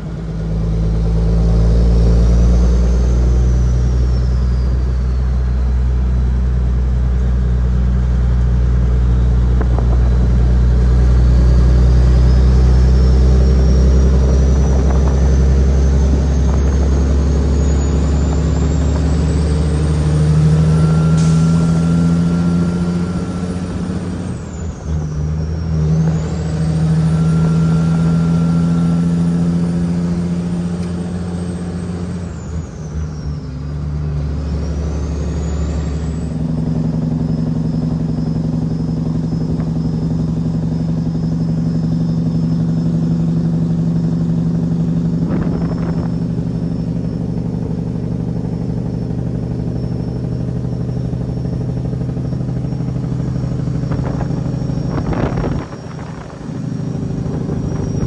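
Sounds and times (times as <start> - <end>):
high turbo whistle: 0.0 - 7.0, 7.9 - 58.0
diesel truck engine under load: 0.0 - 58.0.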